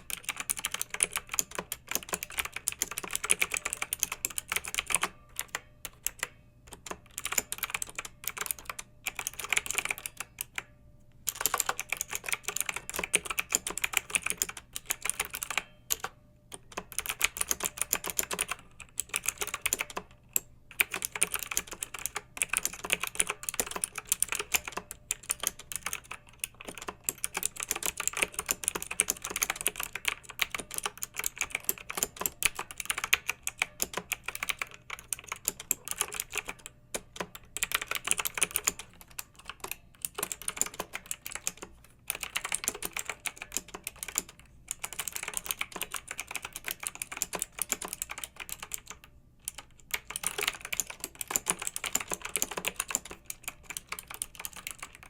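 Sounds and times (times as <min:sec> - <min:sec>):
fast typing on mechanical keyboard: 0:00.0 - 0:10.7, 0:11.3 - 0:55.0.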